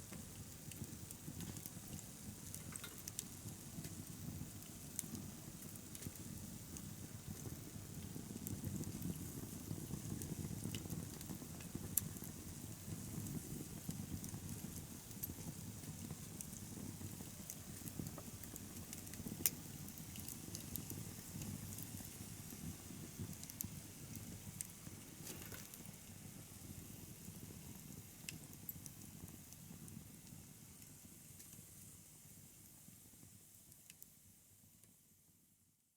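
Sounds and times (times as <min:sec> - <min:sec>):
low rumble of flames: 0:00.0 - 0:31.4
fire crackles and pops: 0:00.0 - 0:34.9.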